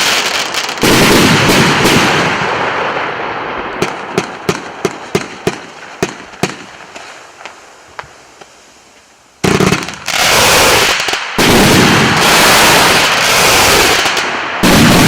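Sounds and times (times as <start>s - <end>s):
fireworks rushing noise: 0.0s - 15.0s.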